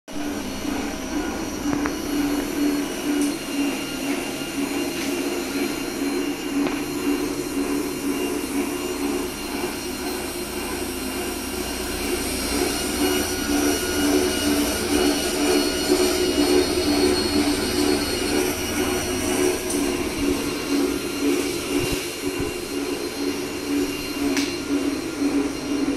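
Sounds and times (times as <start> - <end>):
band sealer machine humming: 0.2 - 25.9.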